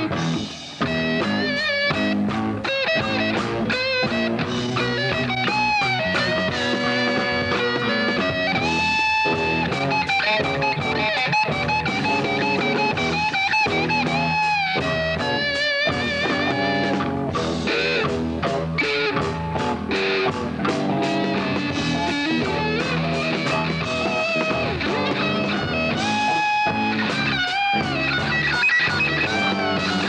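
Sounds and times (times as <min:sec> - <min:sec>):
band backing: 0:00.0 - 0:30.0
lead guitar solo: 0:00.0 - 0:30.0.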